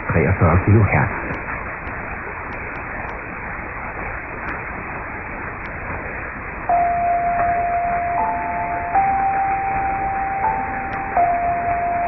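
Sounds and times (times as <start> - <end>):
radio static hiss: 0.0 - 12.0
steady pure tone: 0.0 - 12.0.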